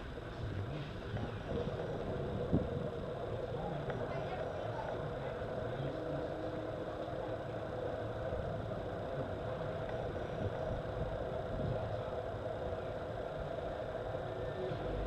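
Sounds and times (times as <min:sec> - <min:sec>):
engine-like hum: 0:00.0 - 0:15.0
low rumble: 0:00.0 - 0:15.0.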